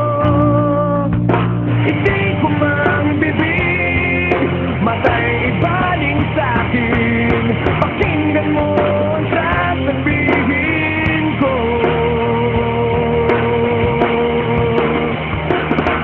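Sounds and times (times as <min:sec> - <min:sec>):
rock song with vocals: 0:00.0 - 0:16.0.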